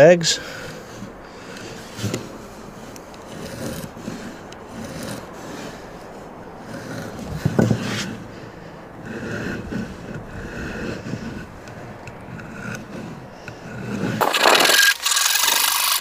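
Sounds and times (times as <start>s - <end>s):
wood block rubbing on plywood: 0.8s - 8.4s, 9.0s - 16.0s.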